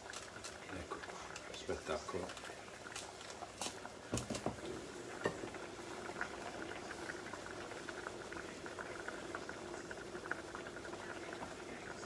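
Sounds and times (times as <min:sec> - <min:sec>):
pots bubbling: 0:00.0 - 0:12.0
sauce simmering with small pops: 0:00.0 - 0:12.0.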